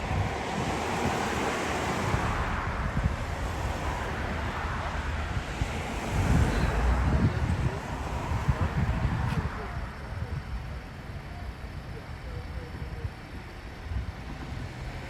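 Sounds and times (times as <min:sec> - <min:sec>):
road traffic: 0:00.0 - 0:15.0
wind rumbling on microphone: 0:00.0 - 0:15.0.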